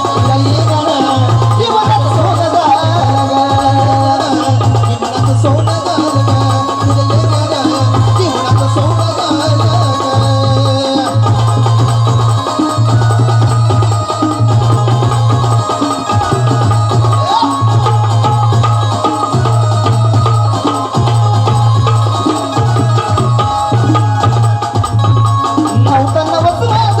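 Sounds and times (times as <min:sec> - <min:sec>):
hand drum percussion: 0:00.0 - 0:27.0.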